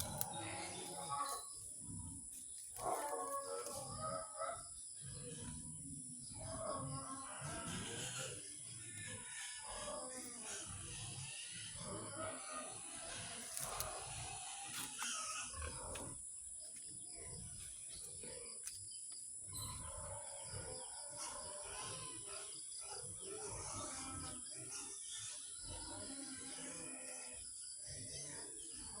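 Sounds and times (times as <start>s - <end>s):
faint farm animal sounds: 0.0s - 29.0s.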